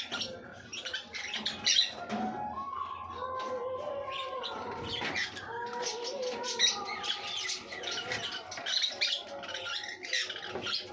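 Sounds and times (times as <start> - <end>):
conures chirping and squeaking: 0.0 - 10.9.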